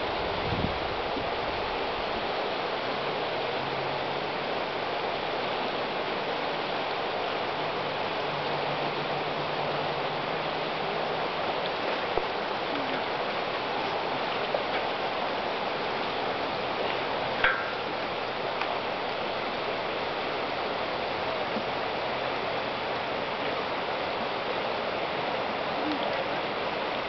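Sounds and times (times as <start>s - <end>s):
river rushing over riffles: 0.0s - 27.0s.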